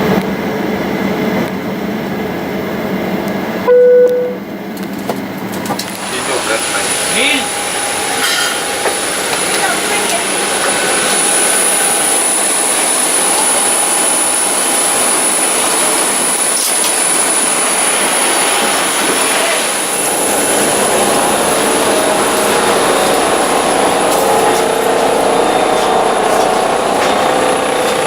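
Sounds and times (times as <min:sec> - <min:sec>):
high-pitched engine whine: 0:00.0 - 0:28.0
jet engines running: 0:00.0 - 0:28.0.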